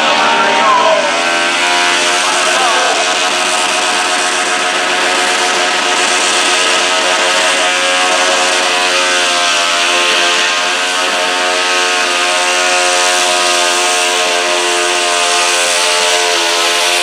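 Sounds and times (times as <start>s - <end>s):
tractor engine at high revs: 0.0s - 17.0s.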